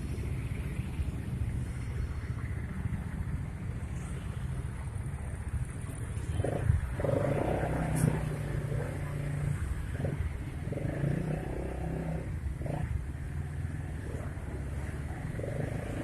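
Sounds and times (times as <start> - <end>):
road traffic noise: 0.0 - 16.0
vehicle engine: 0.0 - 16.0.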